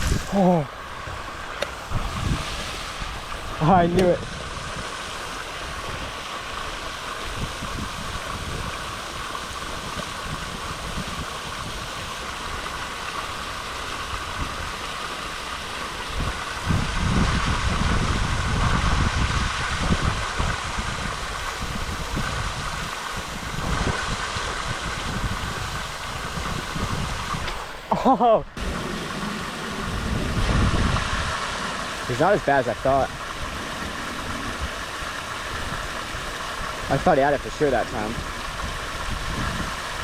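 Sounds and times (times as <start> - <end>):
wind buffeting microphone: 0.0 - 12.7, 16.0 - 27.8, 28.5 - 40.0
steady outdoor hiss: 0.0 - 40.0.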